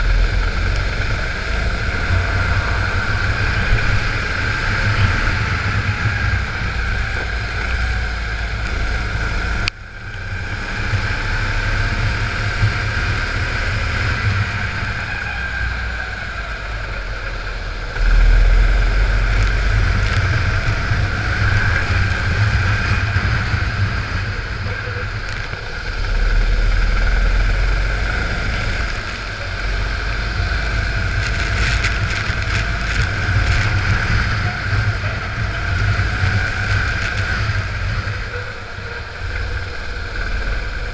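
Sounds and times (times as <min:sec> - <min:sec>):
go-kart engine racing: 0:00.0 - 0:40.9.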